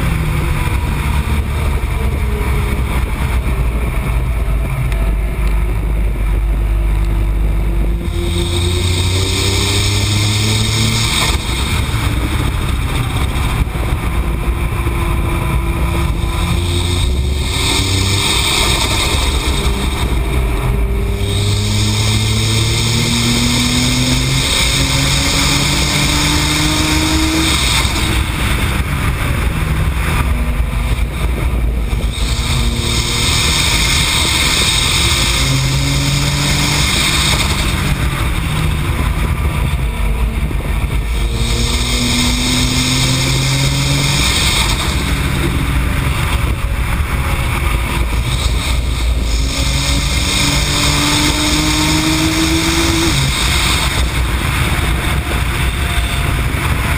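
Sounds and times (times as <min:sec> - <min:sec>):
car engine accelerating hard: 0:00.0 - 0:56.9
wind and road noise: 0:00.0 - 0:56.9.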